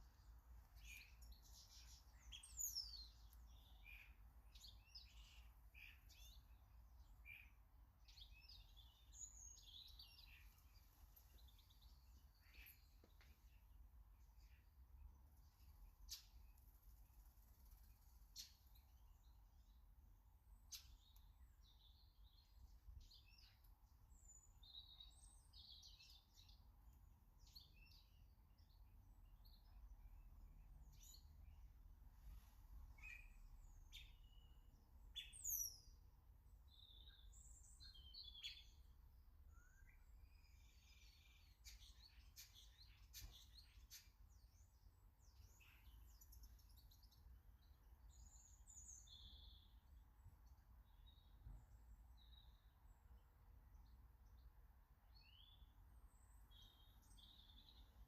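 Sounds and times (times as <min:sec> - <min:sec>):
garden birds chirping: 0:00.0 - 0:58.0.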